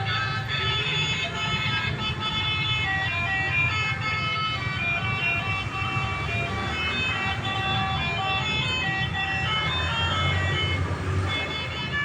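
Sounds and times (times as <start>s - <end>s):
low engine rumble: 0.0s - 12.0s
multi-tone truck horn tune: 0.0s - 12.0s.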